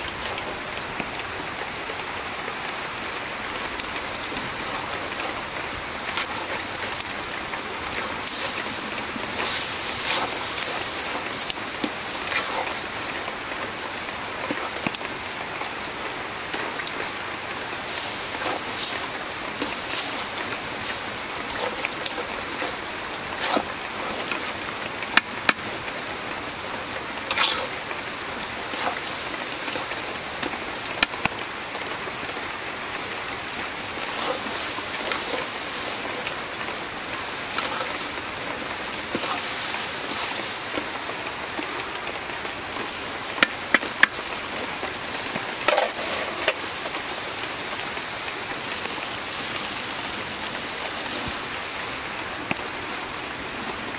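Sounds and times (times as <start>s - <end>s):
curry simmering and sizzling: 0.0s - 53.9s.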